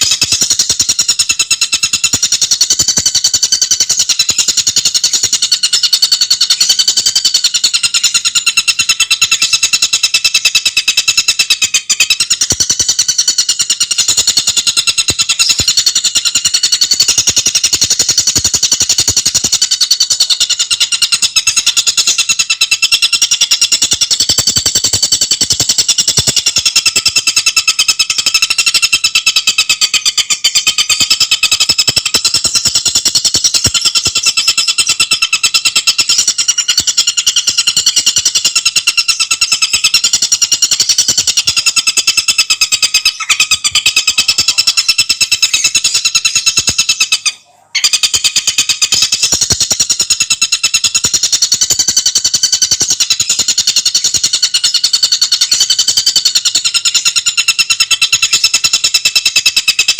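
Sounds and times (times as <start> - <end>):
bird rattling trill: 0.0 - 59.9.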